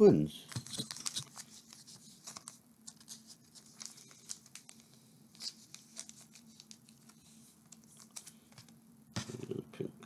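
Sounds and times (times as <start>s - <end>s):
cards and foil wrappers rustling: 0.5s - 9.5s.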